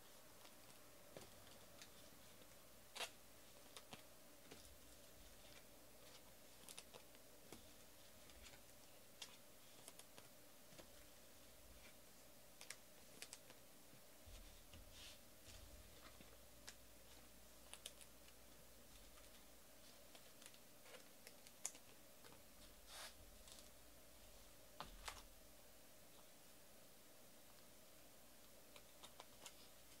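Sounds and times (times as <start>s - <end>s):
faint room hum: 0.0s - 30.0s.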